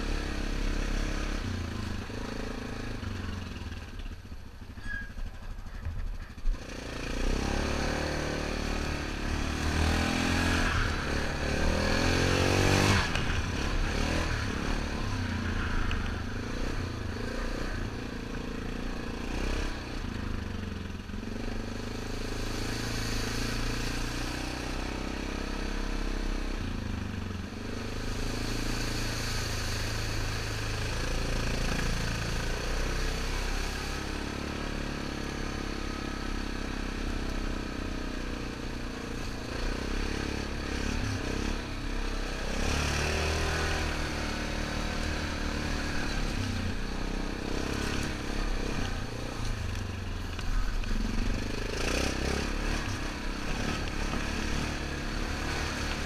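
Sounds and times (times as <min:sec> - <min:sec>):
quad bike engine revving: 0:00.0 - 0:04.1, 0:06.0 - 0:56.0.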